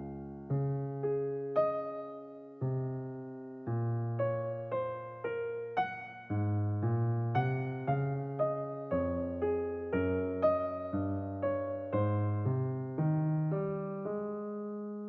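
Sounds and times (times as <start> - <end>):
gentle electric piano tune: 0.0 - 15.0.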